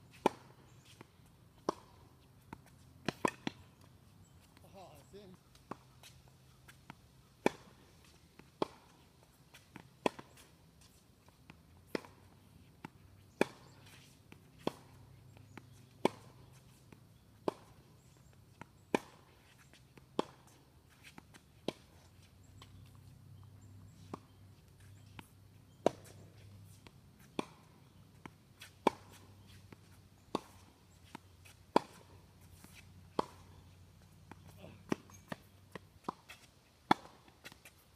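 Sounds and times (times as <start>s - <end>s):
tennis ball racquet hits: 0.1s - 4.4s, 5.5s - 17.8s, 18.4s - 37.9s.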